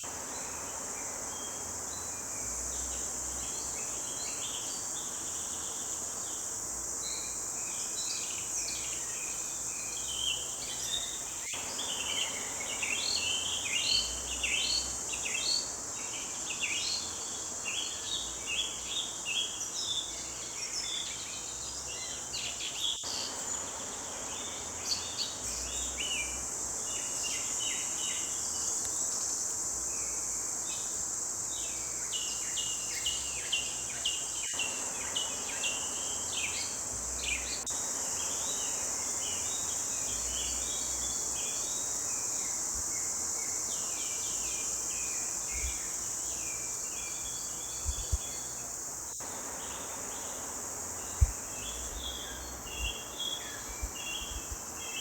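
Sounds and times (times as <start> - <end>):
high insect buzz: 0.0 - 55.0.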